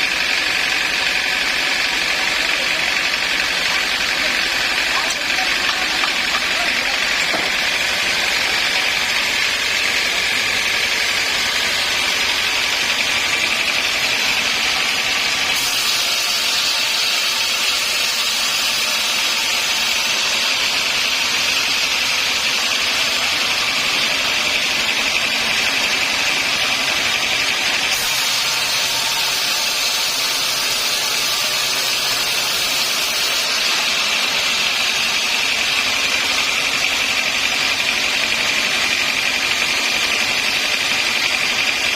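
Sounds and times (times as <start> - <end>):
sawmill saw whining: 0.0 - 41.9.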